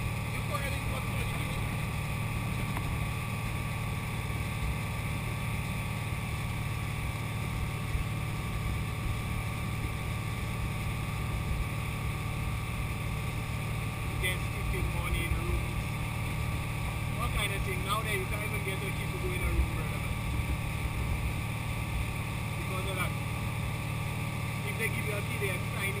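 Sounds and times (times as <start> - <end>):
speedboat engine running: 0.0 - 26.0.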